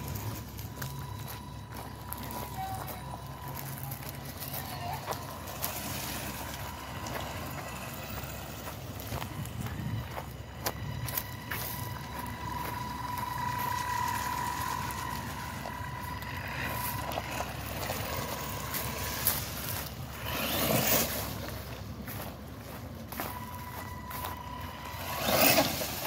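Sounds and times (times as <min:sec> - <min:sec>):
electric motors whining: 0:00.0 - 0:26.0
tyres rustling on wood chips: 0:00.0 - 0:26.0.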